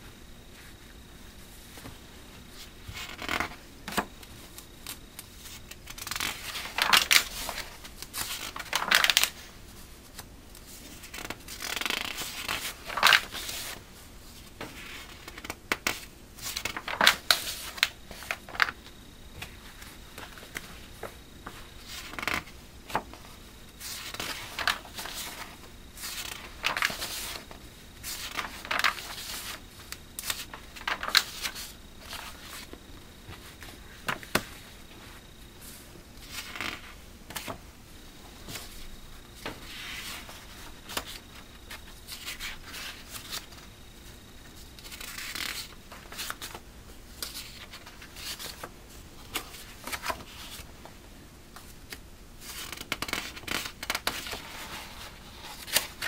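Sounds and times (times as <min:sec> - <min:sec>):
magazine pages rustling: 0:01.6 - 0:37.6, 0:38.4 - 0:43.7, 0:44.4 - 0:50.9, 0:51.6 - 0:56.0.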